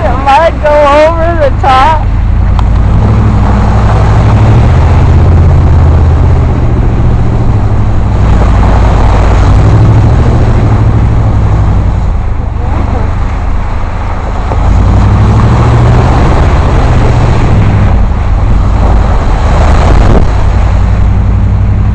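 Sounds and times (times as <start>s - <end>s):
off-road vehicle engine: 0.0s - 21.9s.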